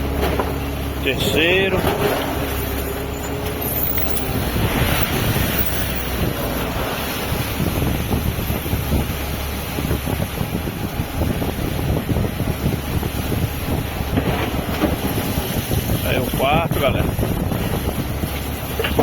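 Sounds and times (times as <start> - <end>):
boat engine low rumble: 0.0 - 19.0
waves washing: 0.0 - 19.0
wind gusting on microphone: 0.0 - 19.0.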